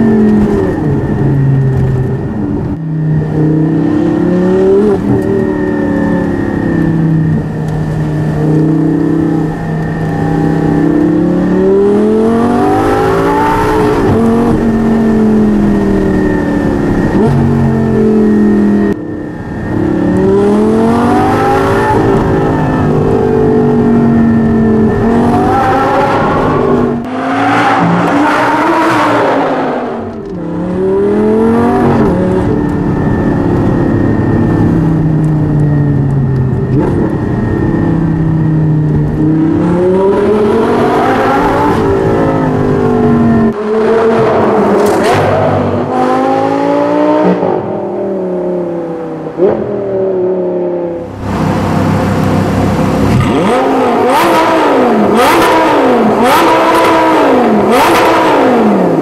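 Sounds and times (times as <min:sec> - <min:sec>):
sports car engine accelerating: 0:00.0 - 0:59.0.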